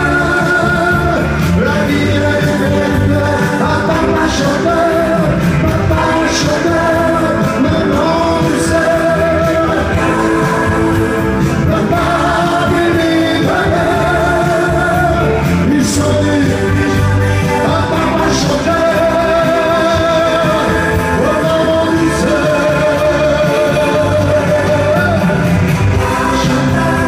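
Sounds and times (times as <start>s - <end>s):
keyboard and band backing: 0.0s - 27.0s
man singing into a microphone: 0.0s - 27.0s.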